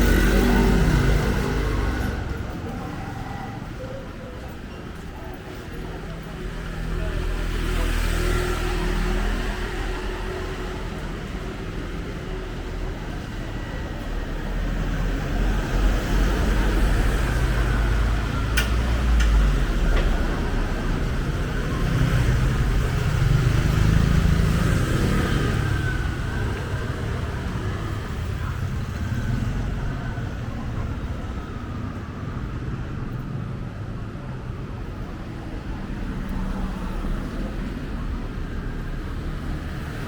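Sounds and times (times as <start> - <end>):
city street traffic rumble: 0.0 - 40.0
vehicles passing close by: 0.0 - 40.0.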